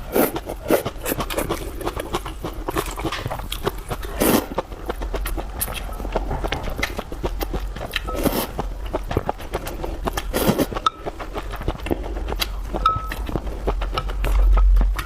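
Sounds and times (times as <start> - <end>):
slurping: 0.0 - 14.4
chewing with wet mouth clicks: 0.0 - 15.0.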